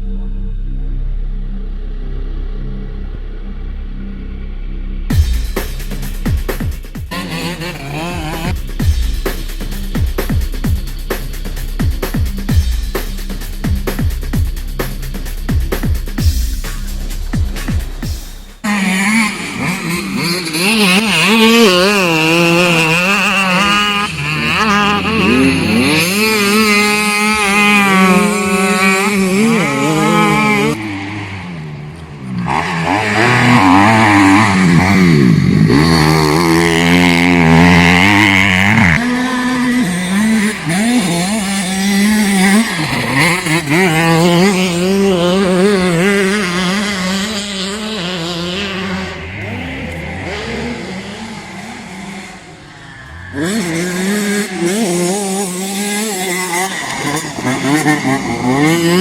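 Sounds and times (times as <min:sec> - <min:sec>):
motocross bike engines revving: 0:00.0 - 0:59.0
bike passing close: 0:05.1 - 0:59.0.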